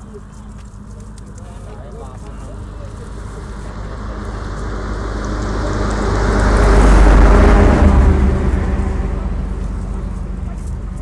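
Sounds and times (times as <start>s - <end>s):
vehicle passing by: 1.4s - 11.0s.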